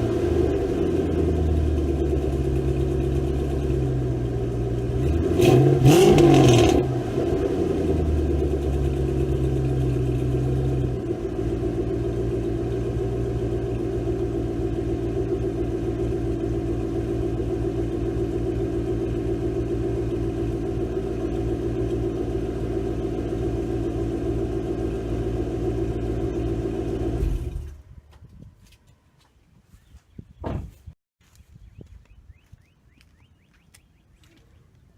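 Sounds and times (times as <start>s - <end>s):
car engine idling: 0.0s - 28.2s.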